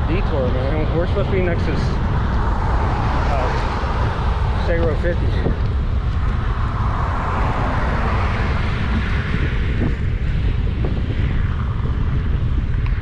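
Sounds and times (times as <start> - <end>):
road traffic passing: 0.0 - 13.0
wind rumble on microphone: 0.0 - 13.0.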